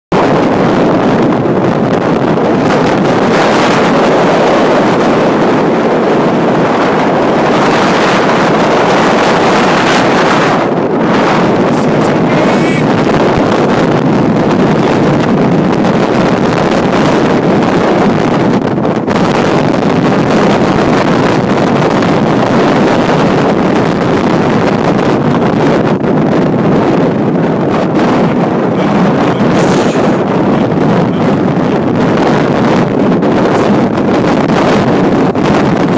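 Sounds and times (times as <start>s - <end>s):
strong wind on microphone: 0.1s - 35.9s.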